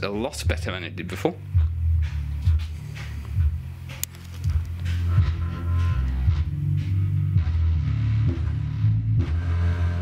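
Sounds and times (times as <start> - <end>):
deep bass music through subwoofer: 0.0 - 10.0.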